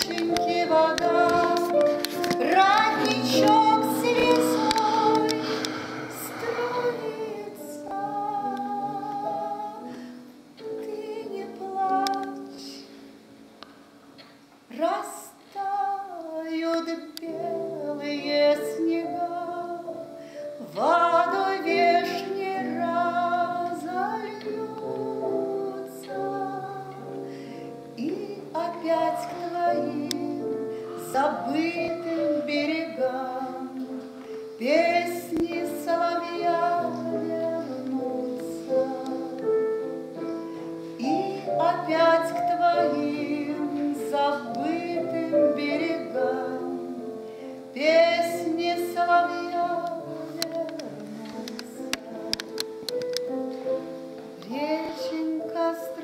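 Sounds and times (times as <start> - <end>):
woman singing with vibrato: 0.0 - 10.0, 10.6 - 12.9, 14.7 - 20.0, 20.6 - 27.2, 28.0 - 34.0, 34.6 - 40.0, 40.8 - 47.1, 47.8 - 52.6, 54.4 - 56.0
piano accompaniment: 0.0 - 56.0.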